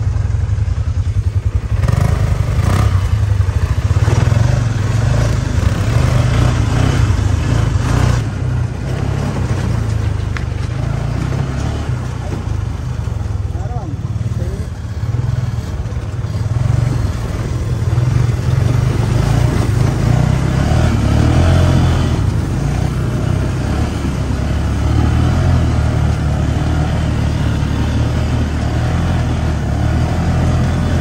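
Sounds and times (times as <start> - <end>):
dune buggy engine droning: 0.0 - 31.0.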